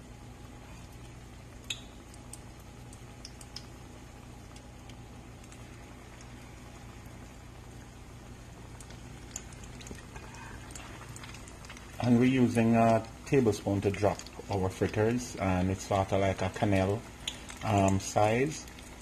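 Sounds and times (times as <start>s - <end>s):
batter frying in hot oil: 0.0s - 19.0s.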